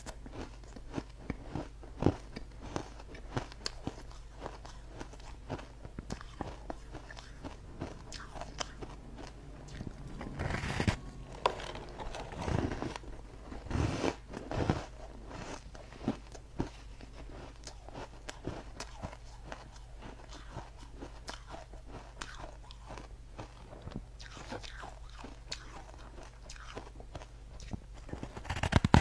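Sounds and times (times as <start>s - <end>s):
teeth crunching ice: 0.0s - 28.7s.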